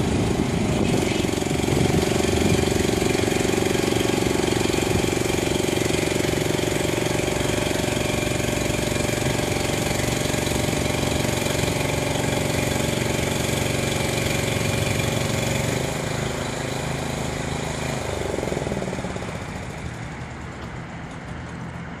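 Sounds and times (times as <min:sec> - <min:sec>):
small conveyor engine running: 0:00.0 - 0:22.0.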